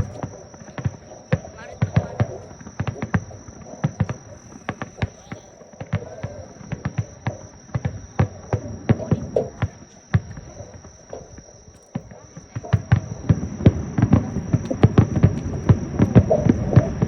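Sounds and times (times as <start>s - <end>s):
fireworks banging and popping: 0.0s - 17.0s.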